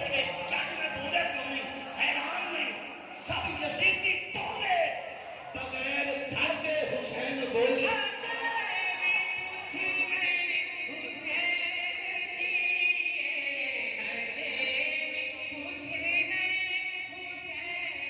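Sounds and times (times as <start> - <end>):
man singing through loudspeaker: 0.0 - 18.0.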